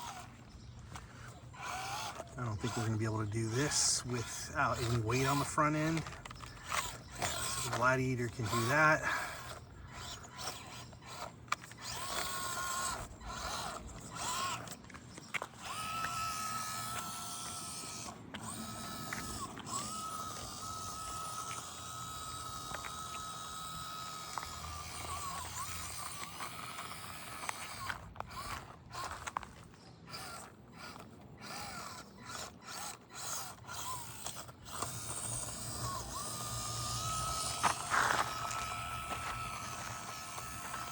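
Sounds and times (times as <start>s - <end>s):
small electric motor whining: 0.0s - 40.9s.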